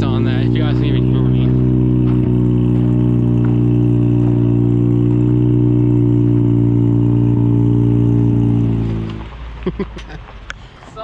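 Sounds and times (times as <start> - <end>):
rotary engine running loudly: 0.0 - 9.3.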